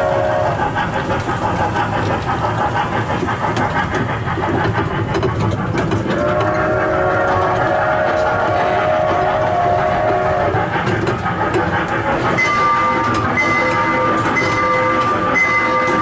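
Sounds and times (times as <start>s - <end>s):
ride train rumbling on track: 0.0s - 16.0s
wheels clicking: 0.0s - 16.0s.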